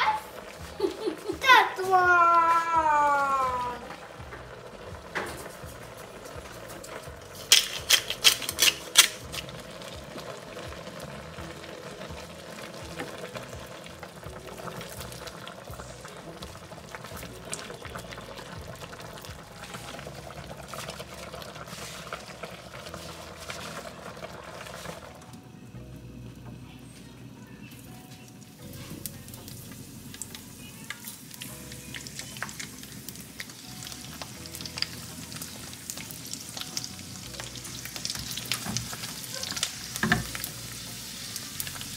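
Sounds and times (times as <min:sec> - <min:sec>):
food sizzling in a wok: 0:00.0 - 0:25.9, 0:27.4 - 0:41.9.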